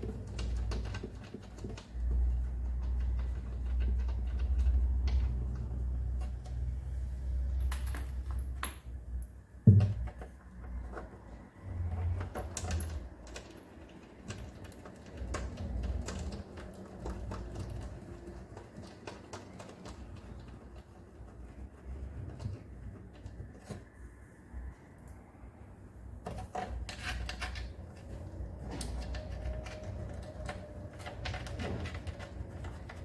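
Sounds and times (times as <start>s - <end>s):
tools clicking and knocking: 0.0s - 20.7s, 26.2s - 33.0s.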